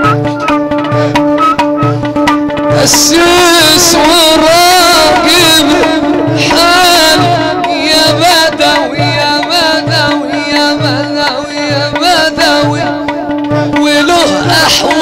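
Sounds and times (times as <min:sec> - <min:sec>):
hand drum beat: 0:00.0 - 0:15.0
wavering instrumental melody: 0:00.0 - 0:15.0.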